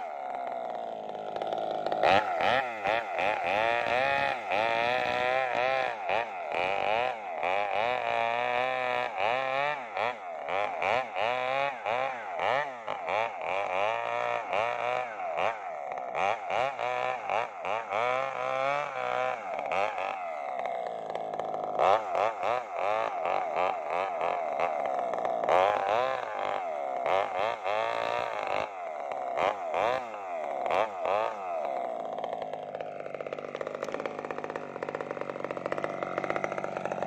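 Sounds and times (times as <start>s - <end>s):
chainsaw cutting log: 0.0s - 37.0s.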